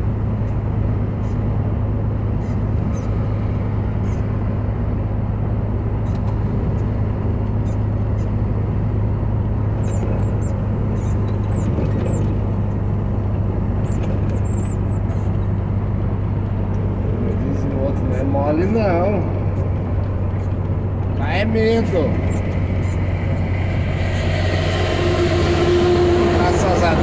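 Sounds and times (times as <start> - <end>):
tyres on wet road: 0.0 - 27.0
vehicle engine drone: 0.0 - 27.0.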